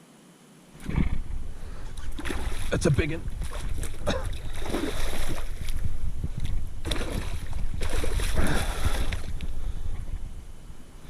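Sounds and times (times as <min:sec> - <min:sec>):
water splashing and sloshing: 0:00.8 - 0:11.0
wind rumbling on microphone: 0:00.8 - 0:11.0.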